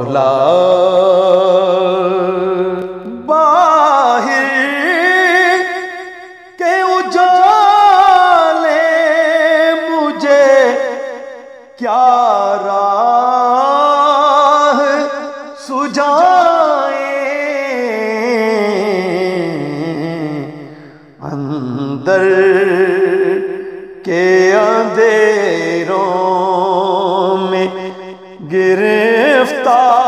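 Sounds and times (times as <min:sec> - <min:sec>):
person chanting with reverb: 0:00.0 - 0:30.0.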